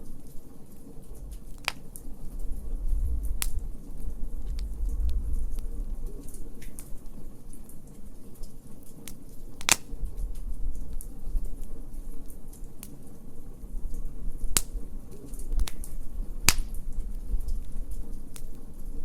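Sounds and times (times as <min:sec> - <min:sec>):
loud fire pops: 0:00.0 - 0:19.0
wood fire crackling: 0:00.0 - 0:19.0.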